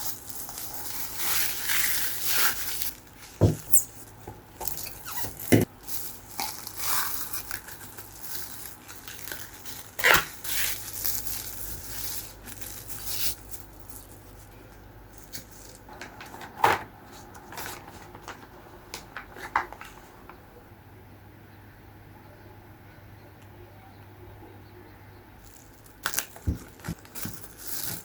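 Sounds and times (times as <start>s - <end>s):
rustling and crinkling: 0.0s - 20.4s, 25.4s - 28.0s.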